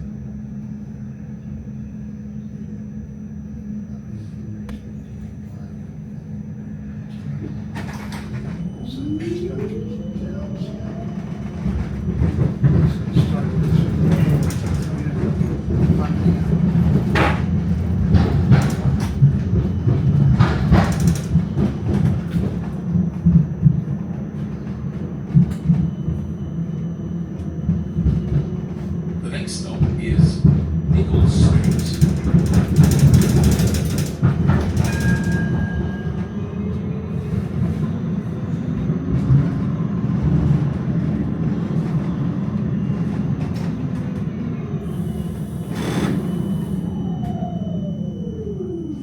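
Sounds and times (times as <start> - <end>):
tram wheels rumbling on rail: 0.0 - 49.0.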